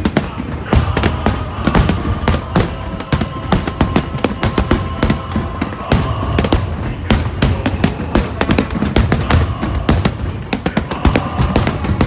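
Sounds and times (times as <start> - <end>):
fireworks bangs and crackles: 0.0 - 12.0
music: 0.0 - 12.0.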